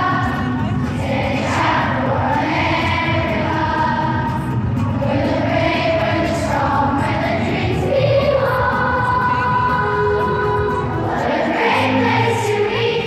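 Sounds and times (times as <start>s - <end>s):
children's choir singing: 0.0s - 13.0s
musical accompaniment: 0.0s - 13.0s.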